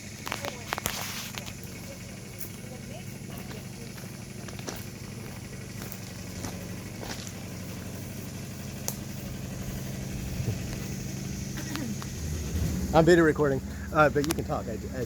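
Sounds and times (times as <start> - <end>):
lift engine humming: 0.0 - 15.0.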